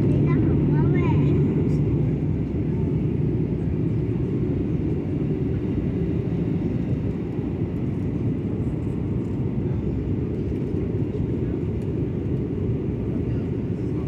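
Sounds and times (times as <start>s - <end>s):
airliner engine rumble in cabin: 0.0s - 14.0s.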